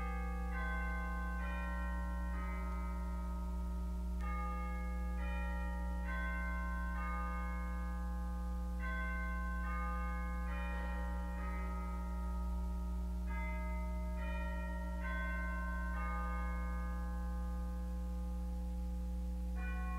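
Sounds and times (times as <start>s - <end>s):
church organ playing chords: 0.0s - 19.9s.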